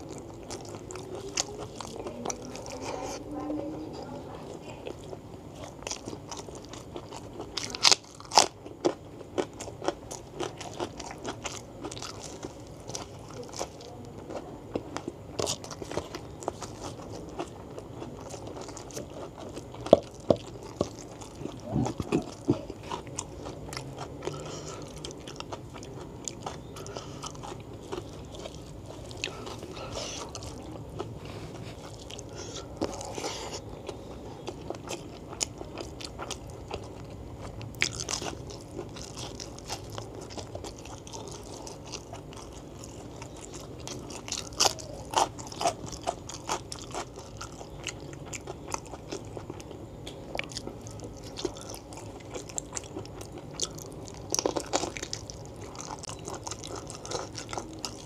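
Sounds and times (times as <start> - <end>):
wet chewing: 0.0 - 58.0
crunchy bites: 5.1 - 31.1, 31.7 - 58.0.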